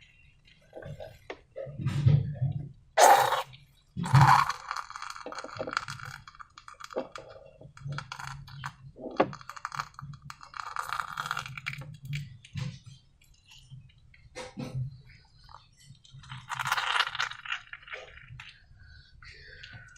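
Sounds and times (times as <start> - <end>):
slime squelch: 3.0 - 19.9.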